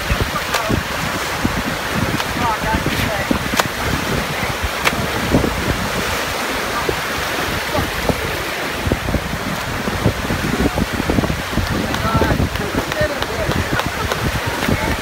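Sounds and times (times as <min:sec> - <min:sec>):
surf breaking: 0:00.0 - 0:15.0
wind buffeting microphone: 0:00.0 - 0:15.0.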